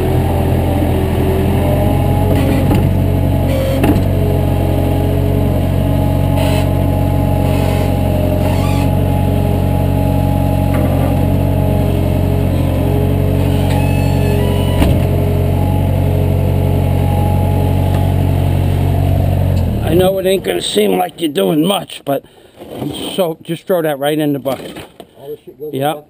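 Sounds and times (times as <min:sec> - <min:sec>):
engine droning steadily: 0:00.0 - 0:22.3.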